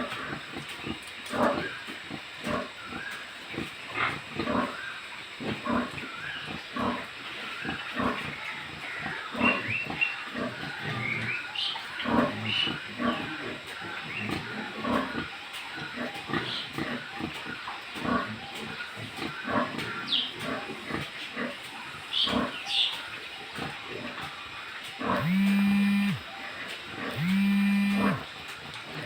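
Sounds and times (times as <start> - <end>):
pigs grunting: 0.0 - 29.0.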